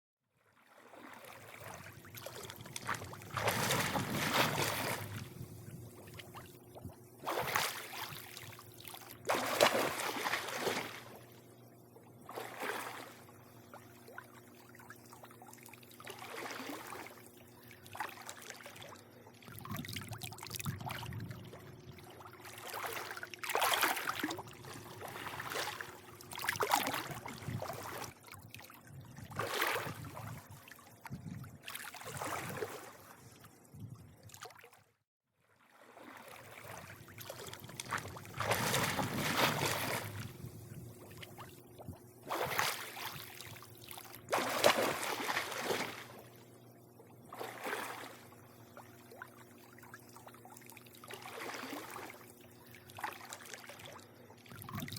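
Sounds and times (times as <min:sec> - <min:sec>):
pool water lapping and splashing: 0:00.4 - 0:54.9
faint steady hum: 0:00.6 - 0:34.5, 0:35.7 - 0:54.9.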